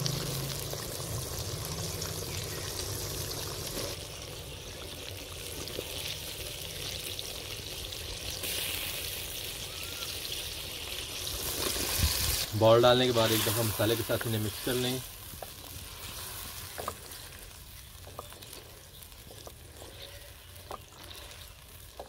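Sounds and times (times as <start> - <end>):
gravy simmering and bubbling: 0.0 - 22.0.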